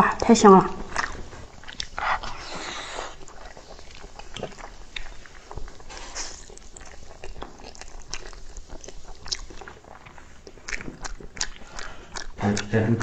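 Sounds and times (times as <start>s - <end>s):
chewing mouth clicks: 0.8s - 12.8s.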